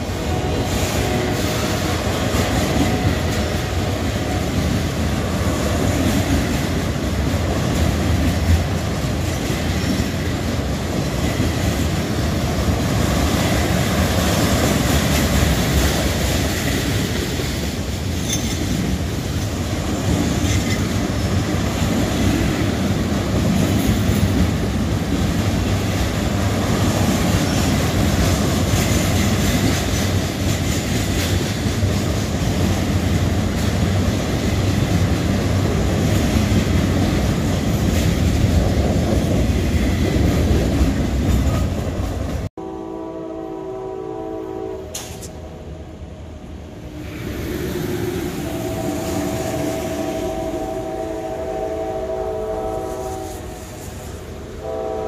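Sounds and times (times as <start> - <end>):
train wheels clickety-clack: 0.0 - 42.5, 44.9 - 45.4, 52.8 - 54.4.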